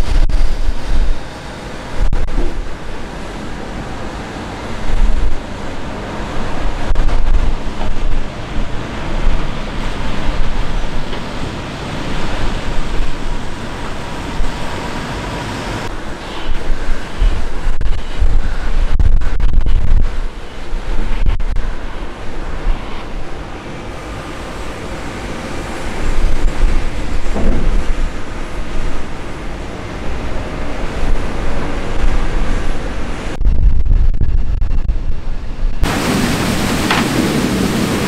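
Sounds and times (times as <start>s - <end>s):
steady rushing noise: 0.0s - 38.0s
wind rumbling on microphone: 0.0s - 38.0s.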